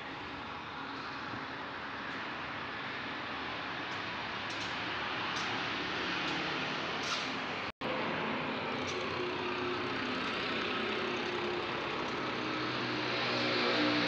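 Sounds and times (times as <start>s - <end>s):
vehicle engine hum and hiss: 0.0s - 14.0s.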